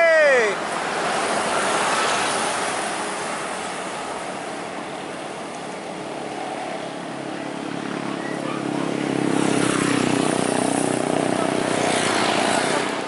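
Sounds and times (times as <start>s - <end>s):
bus driving away: 0.0s - 13.0s
motorcycles: 0.0s - 13.0s
vehicle engine hum: 0.0s - 13.0s.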